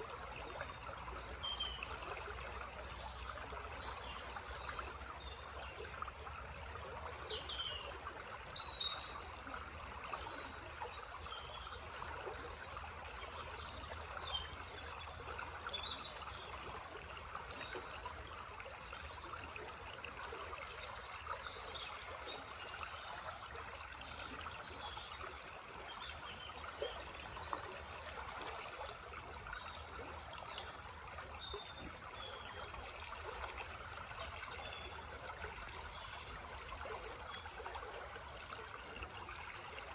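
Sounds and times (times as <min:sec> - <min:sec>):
brook trickling and babbling: 0:00.0 - 0:39.9.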